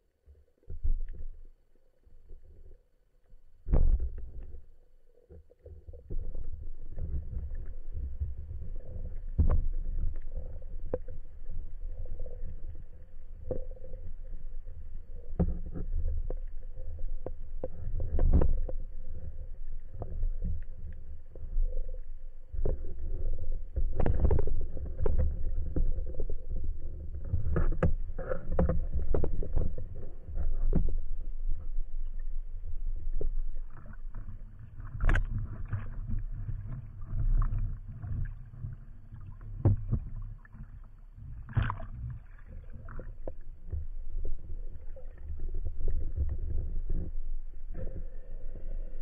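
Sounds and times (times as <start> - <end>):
water sloshing and churning: 3.7 - 49.0.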